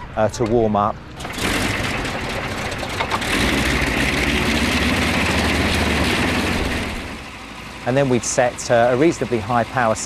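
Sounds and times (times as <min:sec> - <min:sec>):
radial aircraft engine running: 0:00.0 - 0:10.0.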